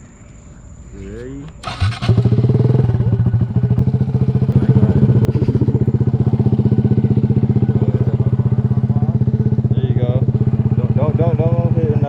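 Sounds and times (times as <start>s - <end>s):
motorcycle engine idling: 1.6s - 12.0s.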